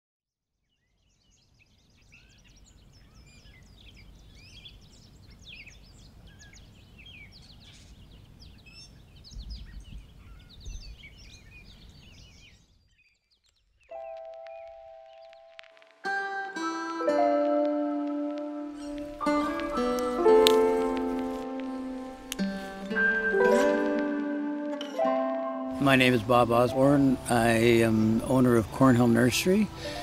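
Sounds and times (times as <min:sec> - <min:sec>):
songbirds chirping and trilling: 0:00.7 - 0:15.9, 0:17.4 - 0:30.0.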